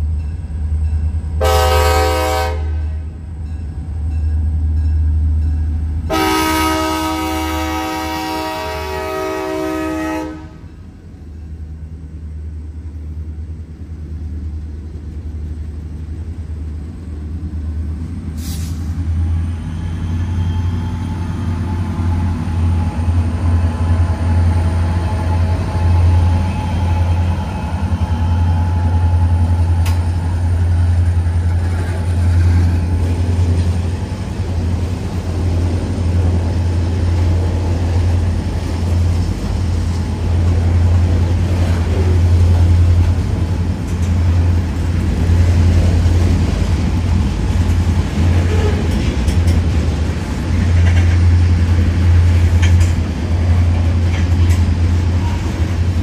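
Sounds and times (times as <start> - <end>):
diesel train rumbling past: 0.0 - 56.0.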